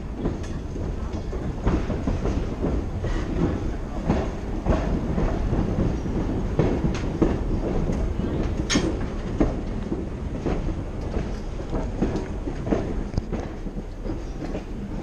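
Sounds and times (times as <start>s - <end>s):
clacks at rail joints: 0.0s - 15.0s
train wheels rumbling: 0.0s - 15.0s.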